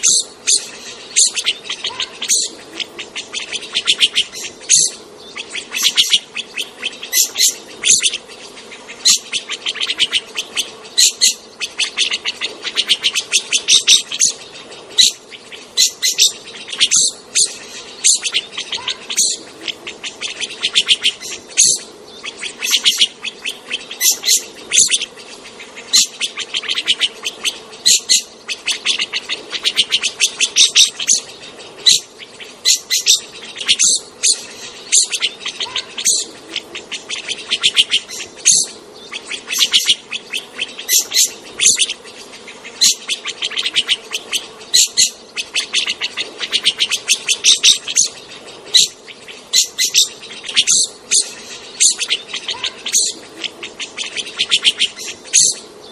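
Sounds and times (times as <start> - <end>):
birds chirping: 0.0 - 55.9
faint steady hum: 0.0 - 55.9.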